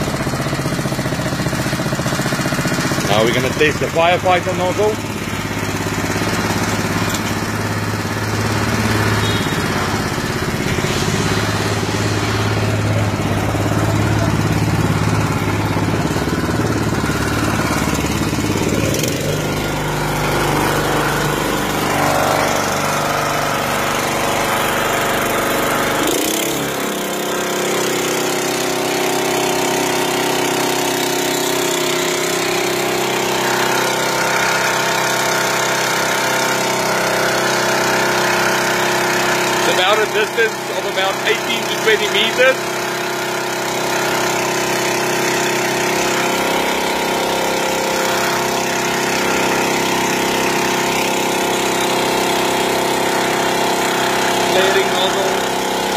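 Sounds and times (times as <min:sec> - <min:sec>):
water pump engine running: 0:00.0 - 0:55.9.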